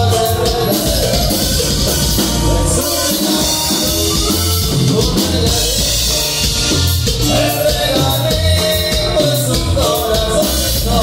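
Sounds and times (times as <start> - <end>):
latin dance music with singing: 0.0 - 11.0.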